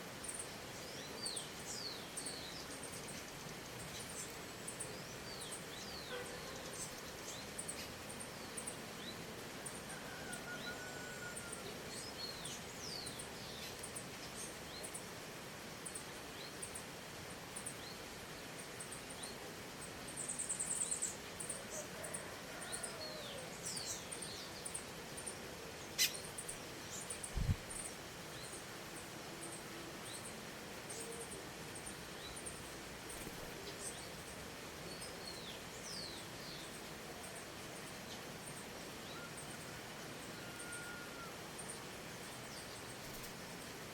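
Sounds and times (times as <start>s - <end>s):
ambient hiss: 0.0s - 43.9s.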